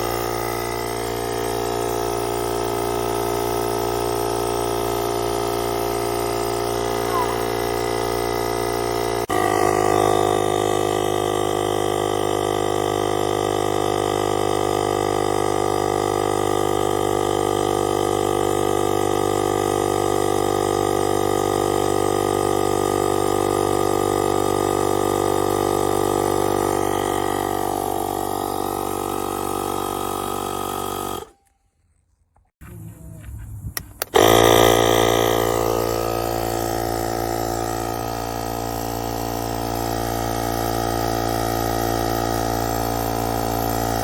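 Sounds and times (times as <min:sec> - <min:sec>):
small piston compressor buzzing: 0:00.0 - 0:31.5, 0:33.7 - 0:44.0.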